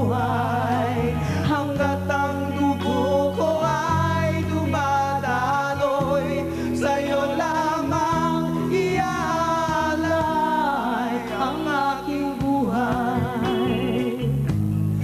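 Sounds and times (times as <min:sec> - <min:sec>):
live band playing a ballad: 0:00.0 - 0:15.0.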